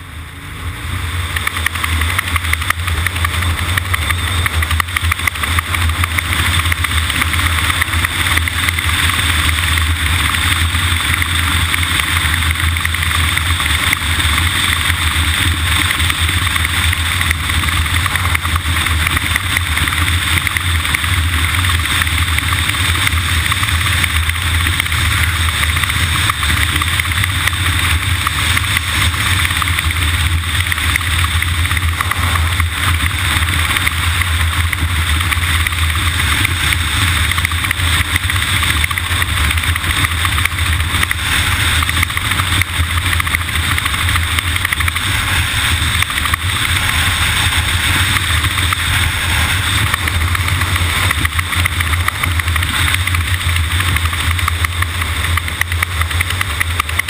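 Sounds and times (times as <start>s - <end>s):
vehicle engine drone: 0.0s - 57.0s
wind and road noise: 0.0s - 57.0s.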